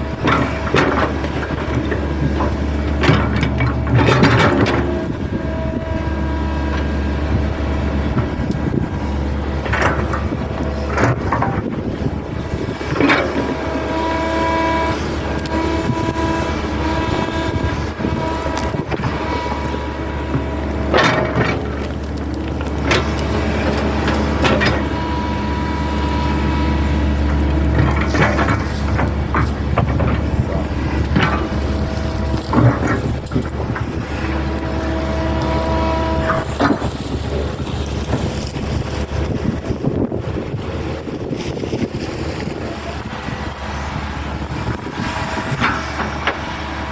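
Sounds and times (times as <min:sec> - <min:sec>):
machine knocks and clanks: 0:00.0 - 0:40.6
excavator engine hum: 0:00.0 - 0:46.9
steady whine at several pitches: 0:00.0 - 0:46.9.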